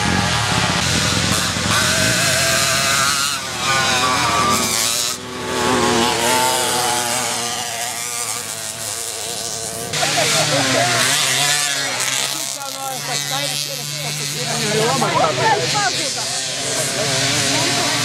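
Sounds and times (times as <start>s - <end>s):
moped engines revving: 0.0s - 18.0s.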